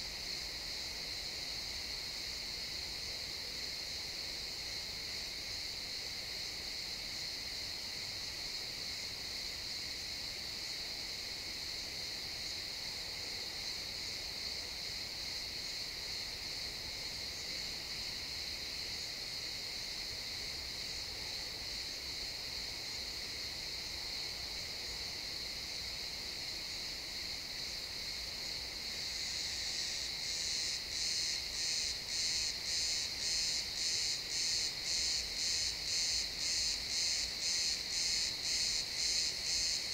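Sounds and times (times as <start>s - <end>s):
crickets chirping chorus: 0.0s - 39.9s
nearby cricket pulsing chirp: 0.0s - 39.9s.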